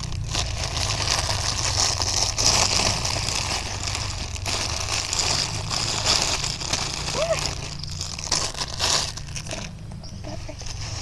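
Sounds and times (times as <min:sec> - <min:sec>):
low rumble: 0:00.0 - 0:11.0
plastic bag crinkling: 0:00.0 - 0:11.0.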